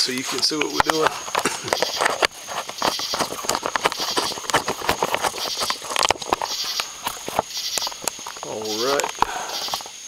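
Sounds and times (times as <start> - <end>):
camera knocks and clicks: 0.3 - 10.0.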